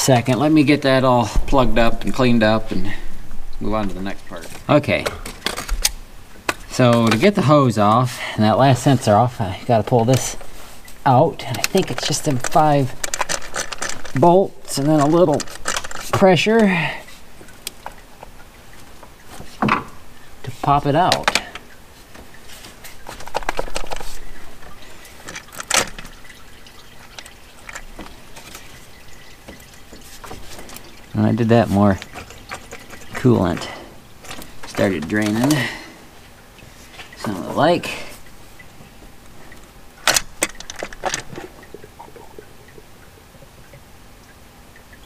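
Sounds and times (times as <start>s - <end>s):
coolant dripping and trickling: 0.0s - 45.0s.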